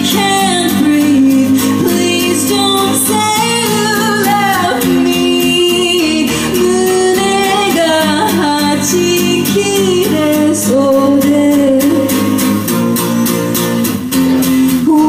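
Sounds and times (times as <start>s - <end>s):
woman singing: 0.0s - 13.1s, 14.7s - 15.0s
acoustic guitar: 0.0s - 15.0s.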